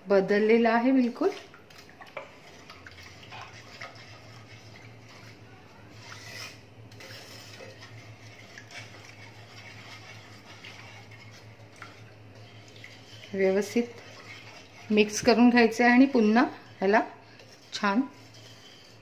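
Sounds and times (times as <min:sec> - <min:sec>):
steady low hum: 0:00.0 - 0:19.0
syrup sloshing: 0:00.8 - 0:19.0
spatula scraping pan: 0:00.9 - 0:19.0.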